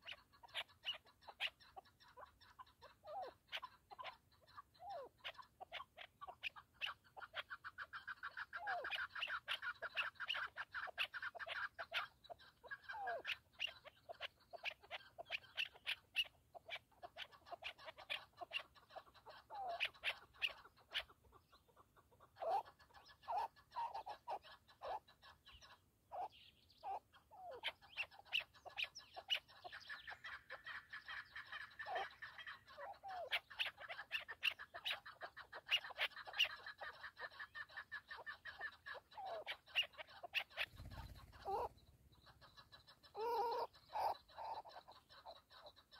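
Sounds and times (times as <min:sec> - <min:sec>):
partridges clucking calls: 0:00.0 - 0:45.9.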